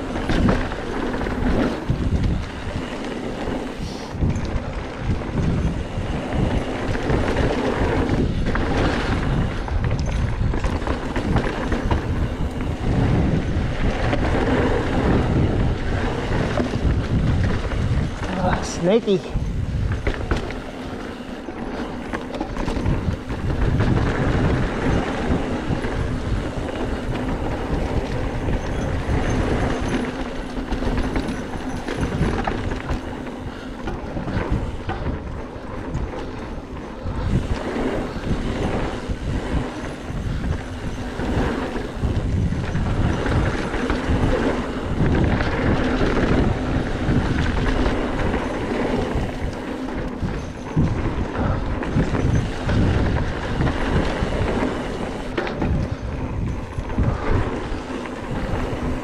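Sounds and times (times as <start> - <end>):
bike rattling and knocking: 0.0 - 59.0
tyres rumbling on dirt: 0.0 - 59.0.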